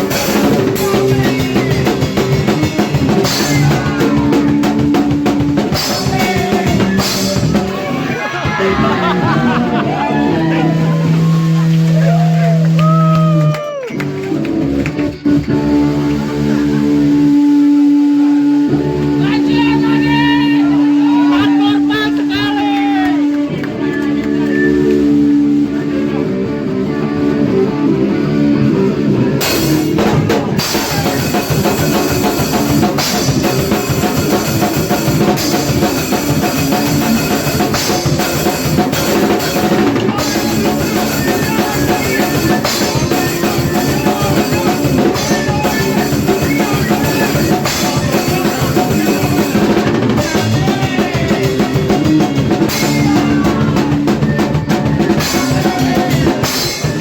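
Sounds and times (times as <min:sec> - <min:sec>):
drum kit with cymbals: 0:00.0 - 0:23.4, 0:29.4 - 0:57.0
electric guitar riff: 0:00.0 - 0:57.0
punk band playing: 0:00.0 - 0:57.0.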